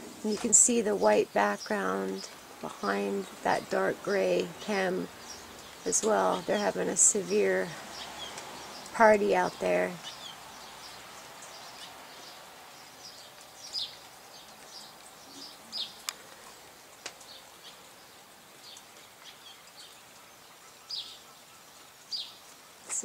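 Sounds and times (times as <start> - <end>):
birds chirping: 0.0 - 23.0
faint outdoor background noise: 0.0 - 23.0.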